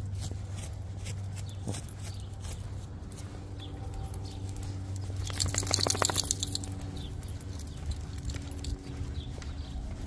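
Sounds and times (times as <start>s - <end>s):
dry leaves crunching underfoot: 0.0s - 10.0s
steady low hum: 0.0s - 10.0s.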